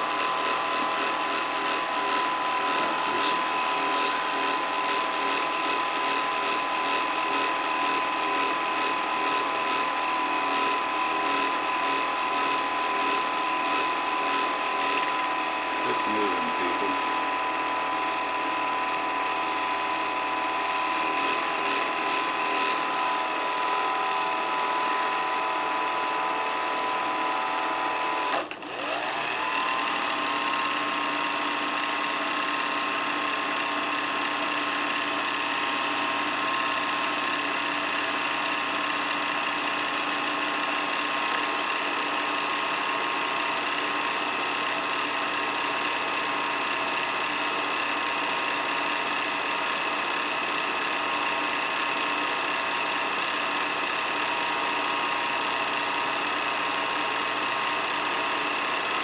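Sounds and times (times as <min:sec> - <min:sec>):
film projector whirring and rattling: 0:00.0 - 0:59.0.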